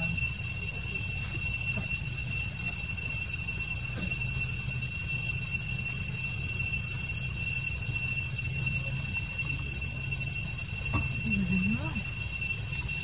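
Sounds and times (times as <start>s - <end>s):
insect chorus whine: 0.0s - 13.0s.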